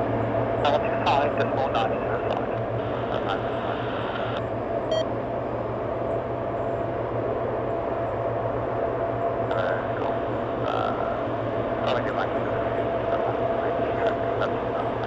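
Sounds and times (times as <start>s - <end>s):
aircraft turbine drone: 0.0s - 15.0s.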